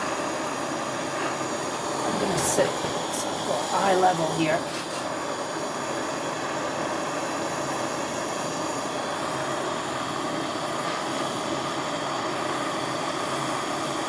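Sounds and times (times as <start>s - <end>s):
gas torch flame roaring: 0.0s - 14.0s.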